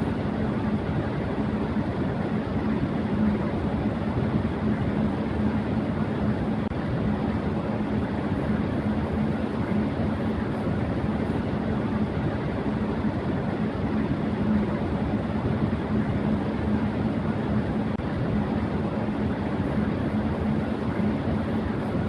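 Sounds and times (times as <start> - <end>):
electric fan running: 0.0 - 22.0.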